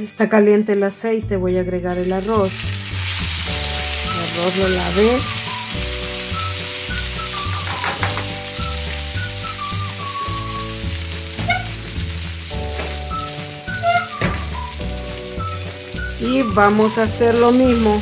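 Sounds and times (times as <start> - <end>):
rice sizzling in frying pan: 1.9 - 18.0.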